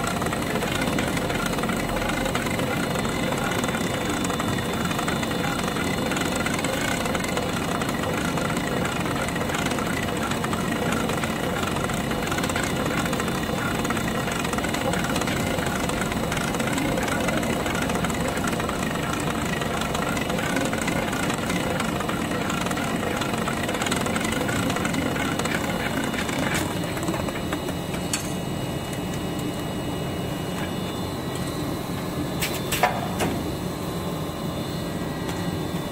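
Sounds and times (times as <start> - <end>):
packing machine hum and whine: 0.0 - 35.9.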